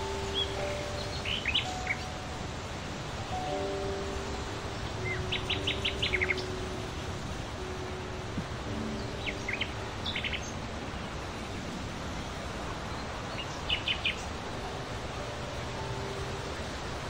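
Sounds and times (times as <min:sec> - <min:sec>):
background hiss: 0:00.0 - 0:17.0
songbirds chirping: 0:00.0 - 0:17.0.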